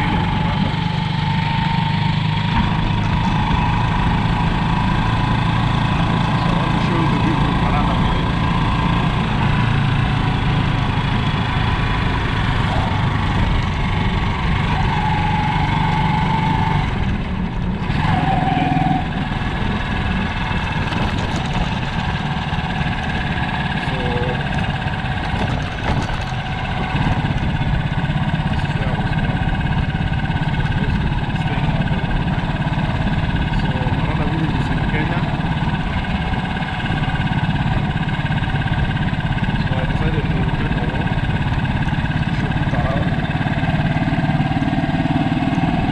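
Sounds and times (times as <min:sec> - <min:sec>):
engine humming: 0:00.0 - 0:45.9.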